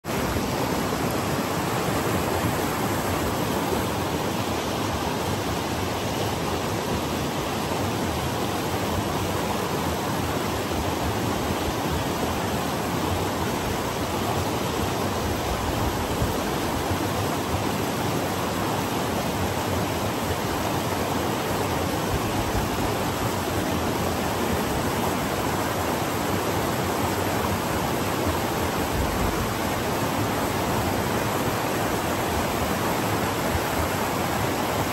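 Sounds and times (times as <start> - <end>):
river rapids rushing over rocks: 0.0 - 34.9.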